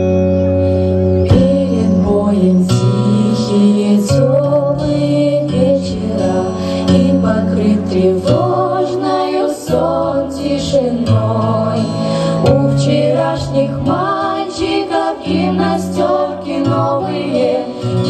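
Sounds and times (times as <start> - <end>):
women singing together: 1.2 - 18.0.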